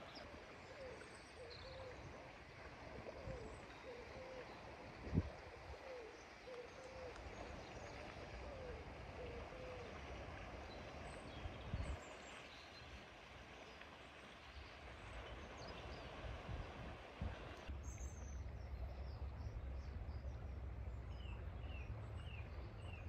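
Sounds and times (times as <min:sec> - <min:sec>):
sea waves washing: 0:00.0 - 0:23.0.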